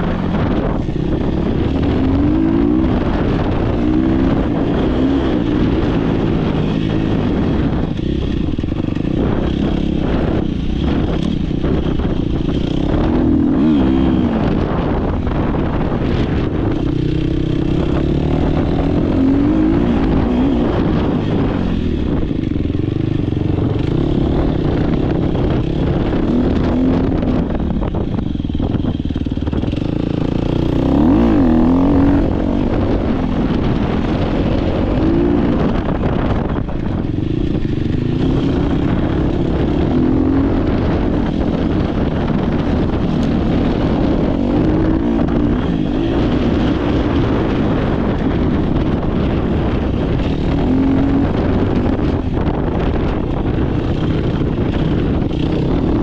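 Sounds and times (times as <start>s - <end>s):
dirt bike engine racing: 0.0s - 56.0s.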